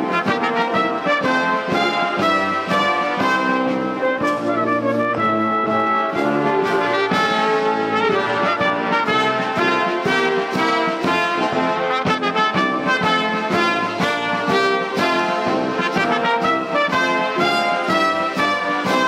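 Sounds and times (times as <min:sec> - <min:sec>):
brass band playing a march: 0:00.0 - 0:19.0.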